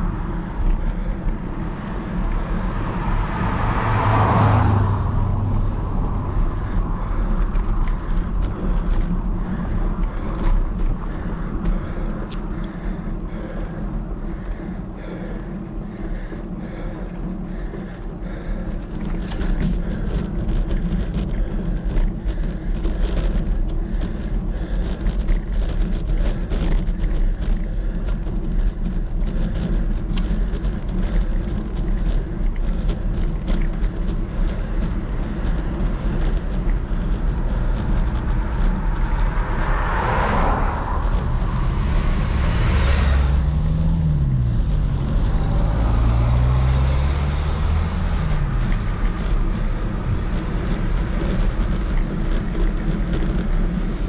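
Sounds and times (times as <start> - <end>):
motor vehicle passing: 0.0 - 54.0
wind rumbling on microphone: 0.0 - 54.0.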